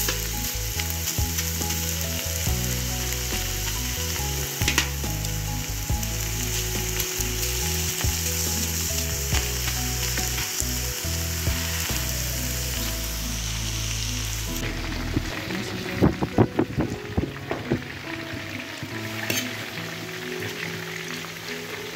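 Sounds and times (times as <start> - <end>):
pork fat sizzling on pan: 0.0 - 21.9.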